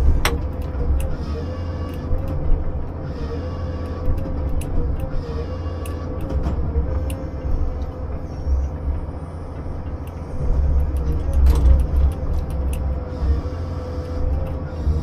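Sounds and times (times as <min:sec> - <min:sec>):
heavy machinery engine rumble: 0:00.0 - 0:15.0
steady machine whine: 0:00.0 - 0:15.0.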